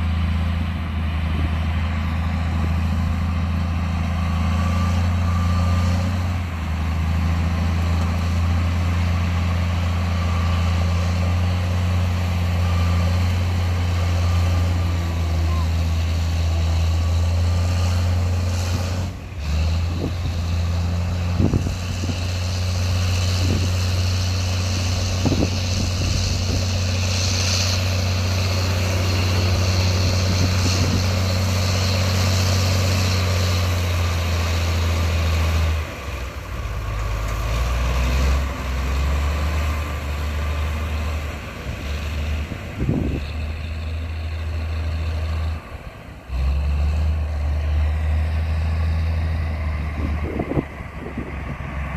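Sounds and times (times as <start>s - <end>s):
diesel machinery engine drone: 0.0s - 51.9s.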